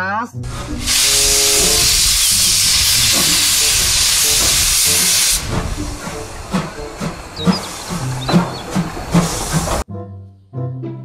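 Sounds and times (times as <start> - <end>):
steam hissing from locomotive: 0.4 - 9.8
steam locomotive chuffing: 0.4 - 9.8.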